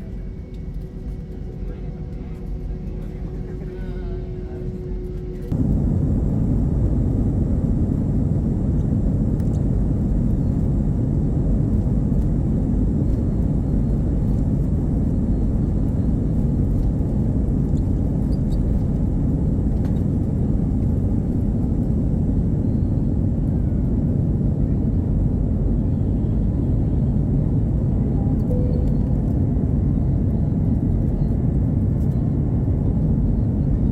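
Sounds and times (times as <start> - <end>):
jet engines rumbling in cabin: 0.0 - 33.9.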